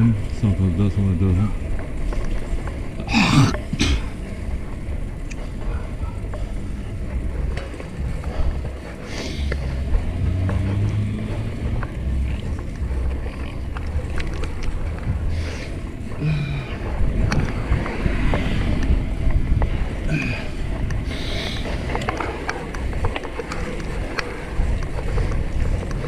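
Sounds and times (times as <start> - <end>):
bike clicks and rattles: 0.0 - 26.0
wind rumbling on microphone: 0.0 - 26.0.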